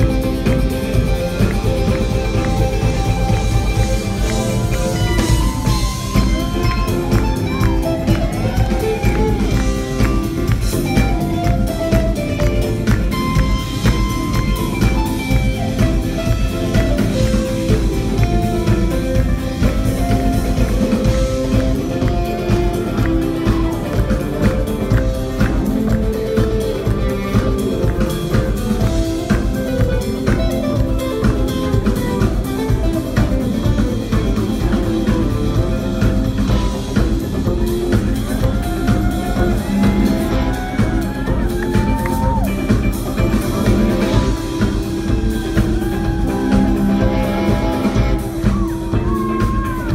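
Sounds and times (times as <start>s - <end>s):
drum kit beat: 0.0s - 49.9s
electric and acoustic guitars: 0.0s - 49.9s.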